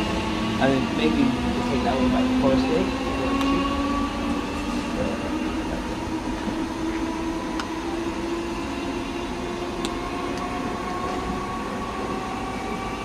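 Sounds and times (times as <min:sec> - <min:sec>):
electric train motor whine: 0:00.0 - 0:13.0.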